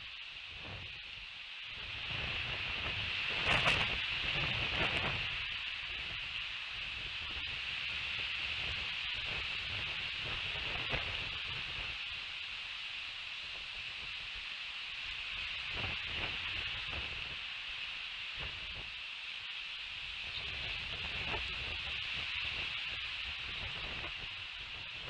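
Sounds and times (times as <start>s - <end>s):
high-pitched hiss: 0.0s - 25.0s
wind rumbling on microphone: 0.0s - 25.0s.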